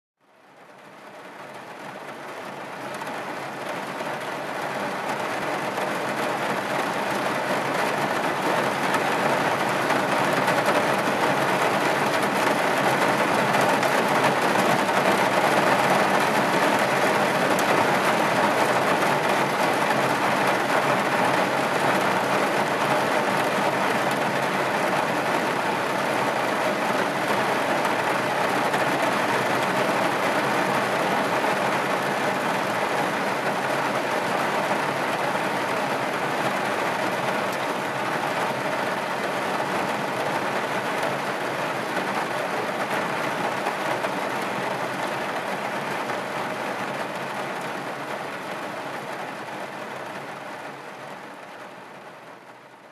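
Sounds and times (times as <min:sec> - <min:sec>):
heavy rain pouring: 0:00.5 - 0:52.9.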